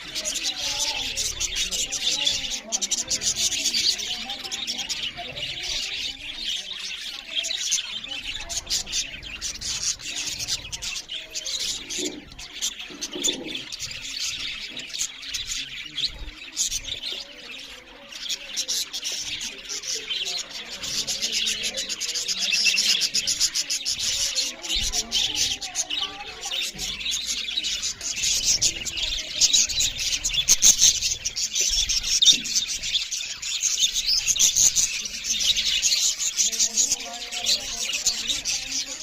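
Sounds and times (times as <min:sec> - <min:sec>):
budgerigars chirping: 0:00.0 - 0:39.0.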